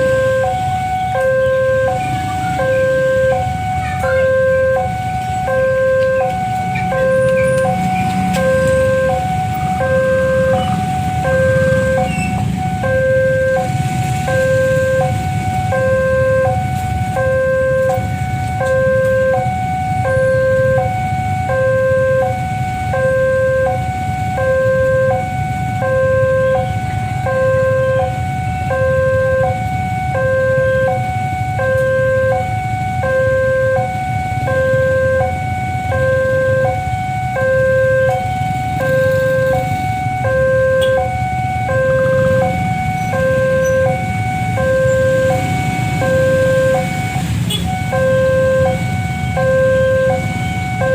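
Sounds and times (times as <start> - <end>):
level crossing two-tone alarm: 0.0 - 50.9.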